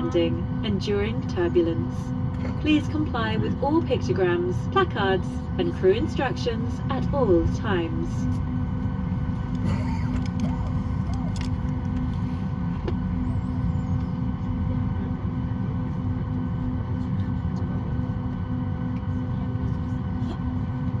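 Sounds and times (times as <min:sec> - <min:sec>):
aircraft cabin rumble and hum: 0:00.0 - 0:21.0.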